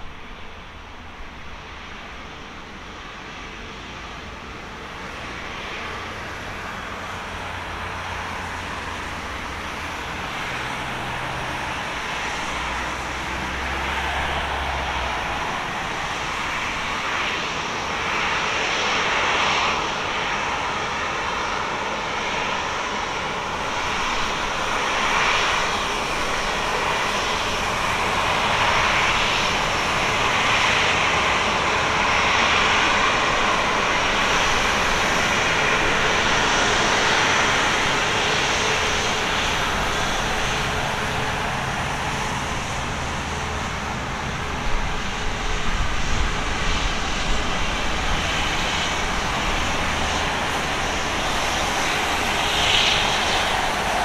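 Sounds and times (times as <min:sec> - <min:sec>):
jet engines at taxi power: 0:00.0 - 0:54.0.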